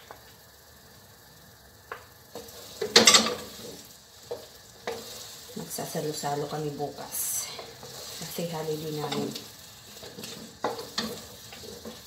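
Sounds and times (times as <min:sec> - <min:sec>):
spatula scraping wok: 0:02.3 - 0:12.0.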